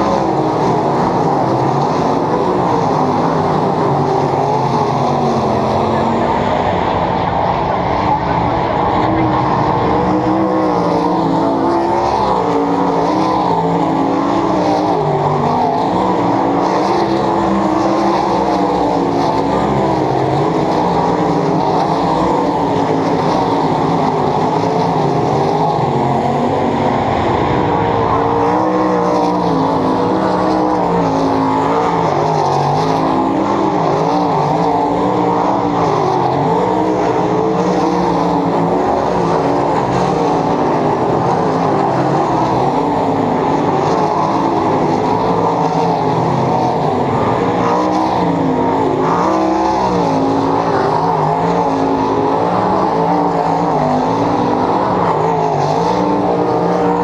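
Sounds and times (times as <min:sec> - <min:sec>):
race car engines wailing: 0:00.0 - 0:57.0.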